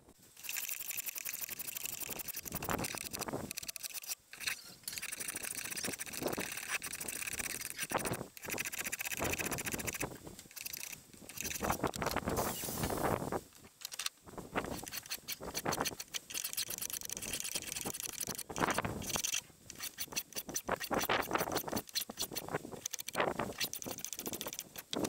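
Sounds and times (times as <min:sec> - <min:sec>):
spokeshave scraping wood: 0:00.4 - 0:13.0, 0:14.6 - 0:24.9.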